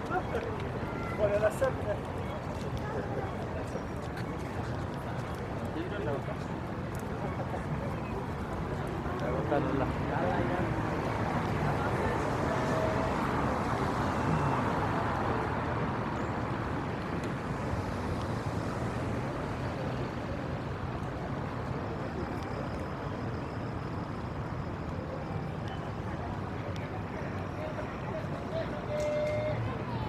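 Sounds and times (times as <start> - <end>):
background crowd: 0.0 - 30.0
traffic noise: 0.0 - 30.0.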